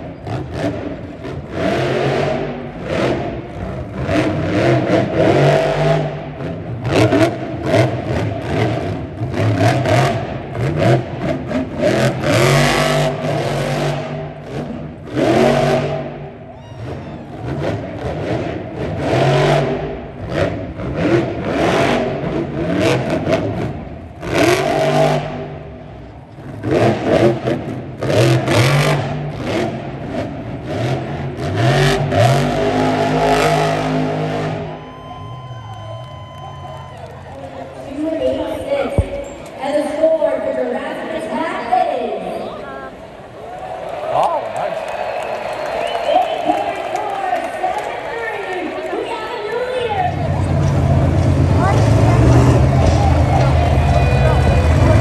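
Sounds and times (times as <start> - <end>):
truck engine revving: 0.0 - 43.4, 44.3 - 55.0.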